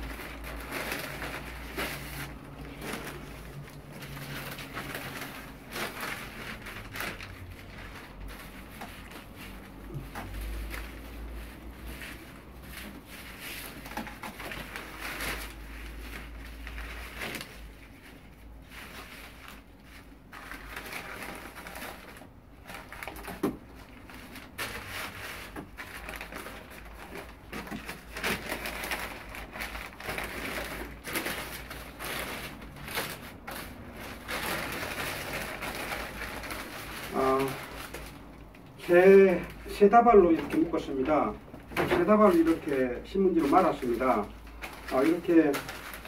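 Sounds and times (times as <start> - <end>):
newspaper crinkling: 0.0 - 46.0.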